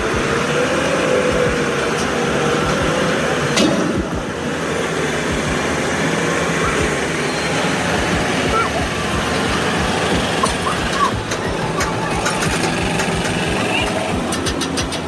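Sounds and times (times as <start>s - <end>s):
heavy vehicle engine running: 0.0s - 15.0s
wavering drone: 0.0s - 15.0s.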